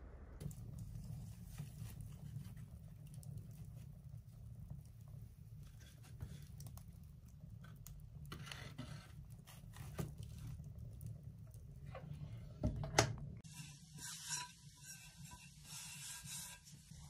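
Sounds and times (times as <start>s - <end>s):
wood fire crackling: 0.4s - 17.0s.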